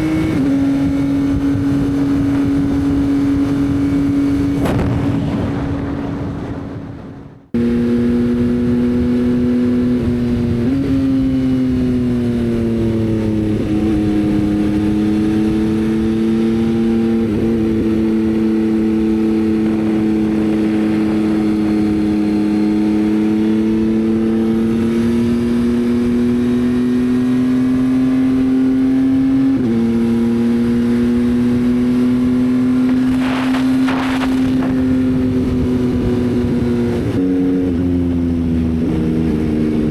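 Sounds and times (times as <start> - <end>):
motorcycle engine running: 0.0 - 7.0, 7.6 - 39.9.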